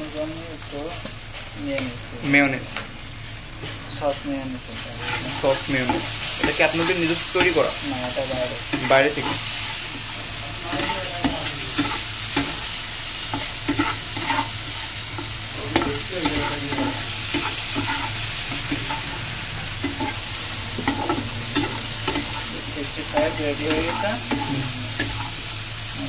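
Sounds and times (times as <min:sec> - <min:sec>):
chicken sizzling in a frying pan: 0:00.0 - 0:26.0
turner scraping a pan: 0:03.6 - 0:26.0.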